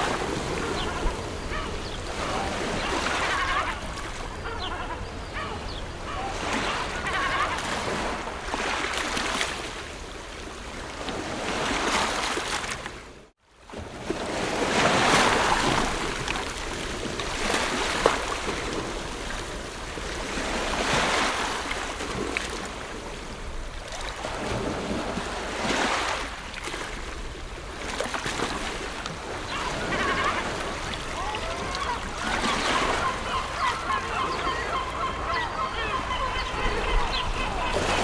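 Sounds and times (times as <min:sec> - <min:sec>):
ocean waves washing on shore: 0:00.0 - 0:38.0.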